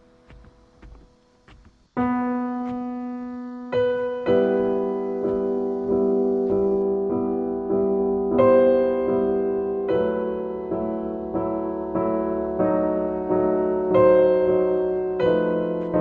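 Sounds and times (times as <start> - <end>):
slow gentle piano chords: 0.0 - 16.0.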